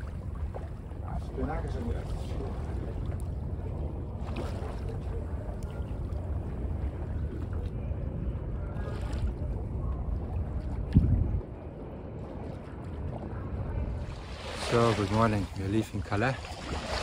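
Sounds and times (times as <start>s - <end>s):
faint splashes: 0.0s - 17.0s
water washing against hull: 0.0s - 17.0s
wind buffeting microphone: 0.0s - 17.0s.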